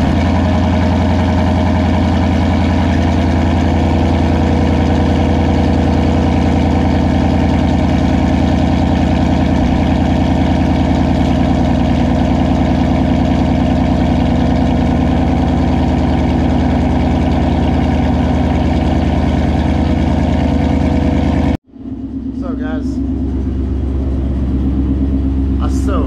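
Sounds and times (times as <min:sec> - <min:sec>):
car engine idling loudly: 0:00.0 - 0:26.0.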